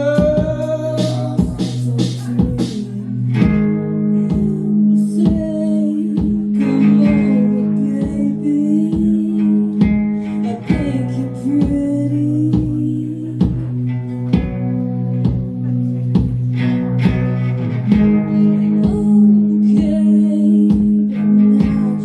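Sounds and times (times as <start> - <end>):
held low notes: 0.0 - 22.0
strummed acoustic guitar: 0.0 - 22.0.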